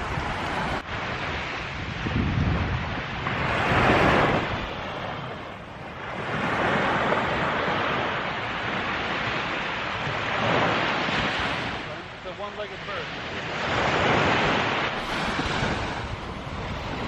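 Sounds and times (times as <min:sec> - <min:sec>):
wind buffeting microphone: 0:00.0 - 0:12.2, 0:12.9 - 0:17.0
surf breaking on beach: 0:00.0 - 0:17.0.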